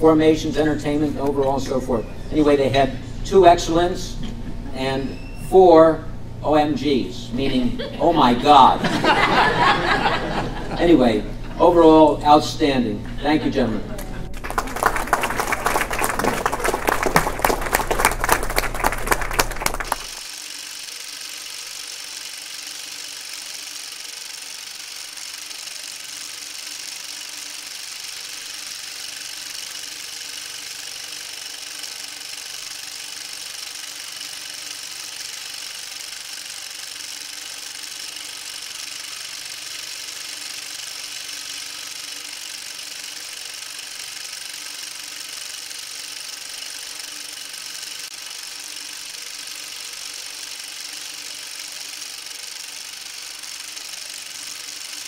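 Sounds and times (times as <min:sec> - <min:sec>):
small machine whirring: 0:00.0 - 0:55.0.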